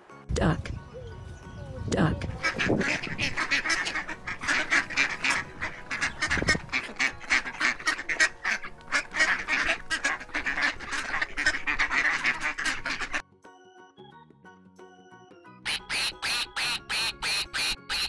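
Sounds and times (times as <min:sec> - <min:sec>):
ducks quacking: 0:00.4 - 0:13.2, 0:15.7 - 0:18.0.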